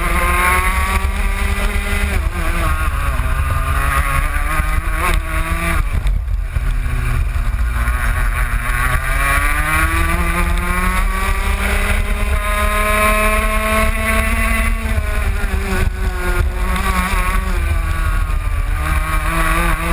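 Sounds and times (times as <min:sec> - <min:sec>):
kart engine revving: 0:00.0 - 0:19.9.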